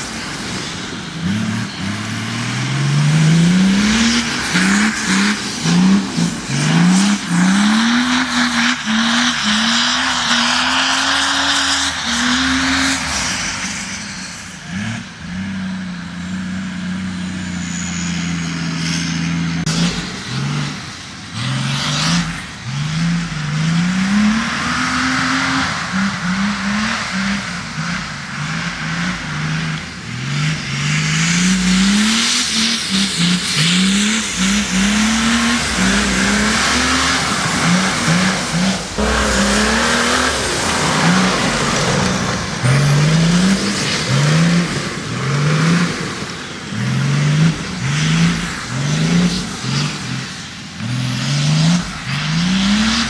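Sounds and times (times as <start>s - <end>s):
diesel engine revving hard: 0.0s - 53.0s.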